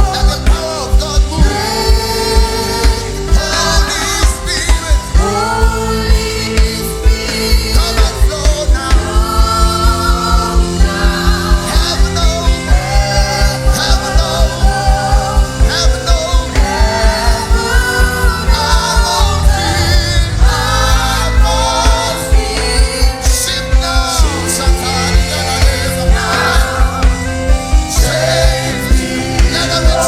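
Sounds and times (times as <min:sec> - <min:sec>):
gospel singing: 0:00.0 - 0:30.0
low drum beat: 0:00.0 - 0:30.0
sustained chords: 0:00.0 - 0:30.0.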